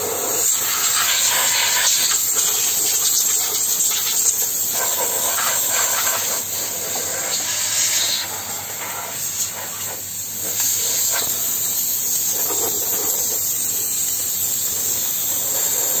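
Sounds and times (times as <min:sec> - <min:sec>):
steam jet hissing: 0:00.0 - 0:16.0.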